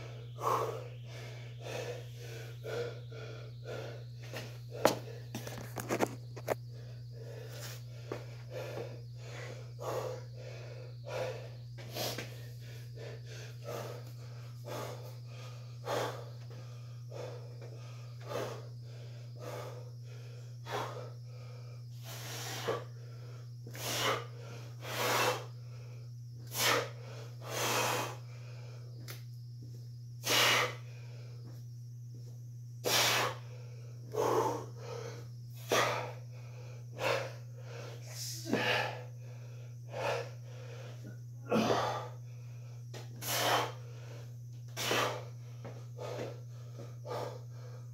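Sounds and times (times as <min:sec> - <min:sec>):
man breathing hard: 0:00.0 - 0:05.6, 0:06.4 - 0:32.2, 0:32.8 - 0:47.9.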